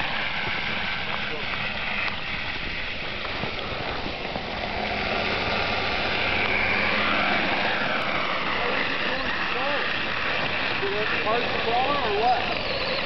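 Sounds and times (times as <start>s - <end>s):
electric motor whine: 0.0s - 13.0s
steady rushing noise: 0.0s - 13.0s.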